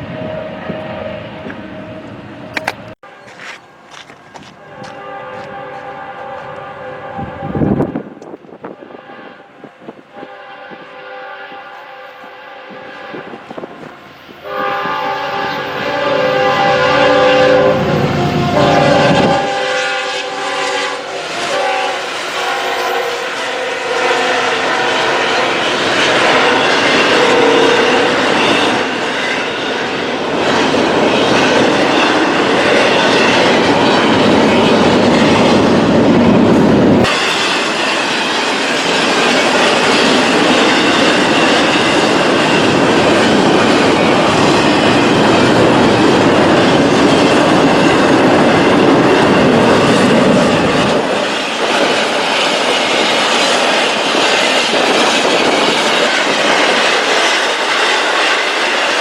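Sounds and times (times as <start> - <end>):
railroad cars rumbling and clattering: 0.0 - 59.0.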